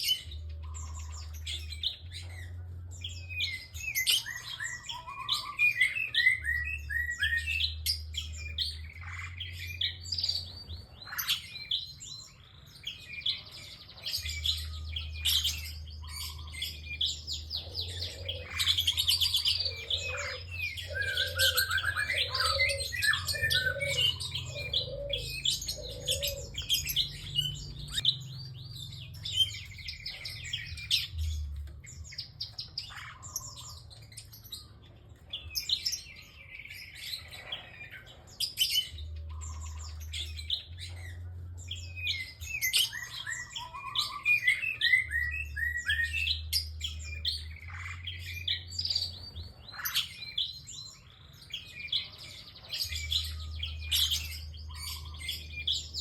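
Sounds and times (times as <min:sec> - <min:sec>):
bird singing high chirps: 0:00.0 - 0:56.0.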